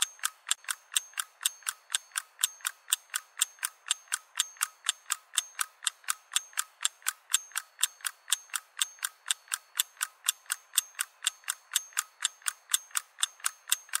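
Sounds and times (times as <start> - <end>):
rapid mechanical ticking: 0.0 - 14.0.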